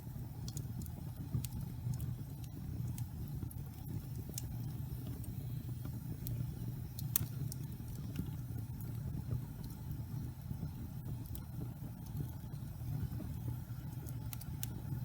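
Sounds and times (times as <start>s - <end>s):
log fire crackling and popping: 0.0s - 15.0s.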